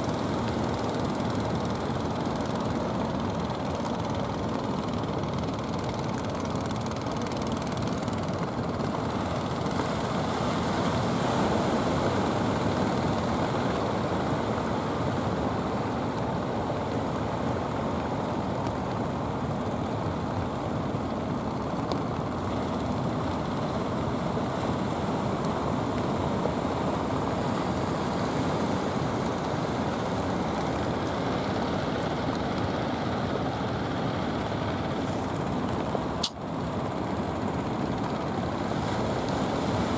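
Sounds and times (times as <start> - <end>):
surf on open sea: 0.0 - 39.9
wind: 0.0 - 39.9.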